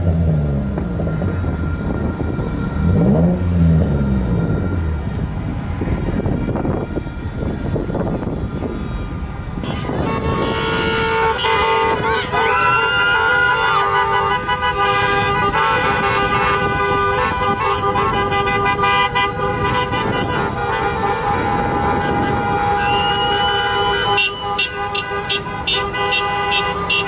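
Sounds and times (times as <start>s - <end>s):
car horns honking: 0.0s - 27.0s
traffic rumble: 0.0s - 27.0s.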